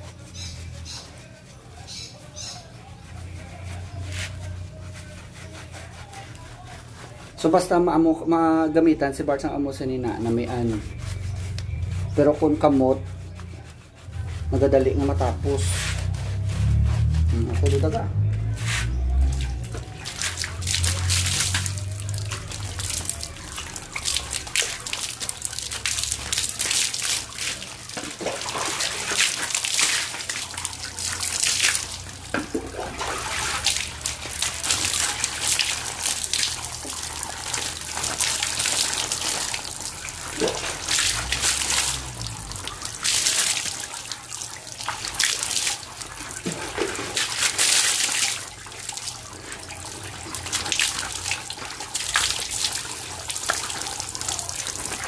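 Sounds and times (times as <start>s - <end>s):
water pouring and splashing: 9.0s - 55.0s.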